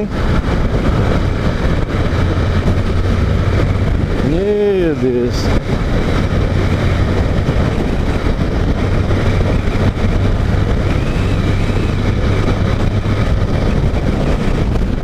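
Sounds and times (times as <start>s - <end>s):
motorcycle engine humming: 0.0s - 15.0s
wind and road noise: 0.0s - 15.0s.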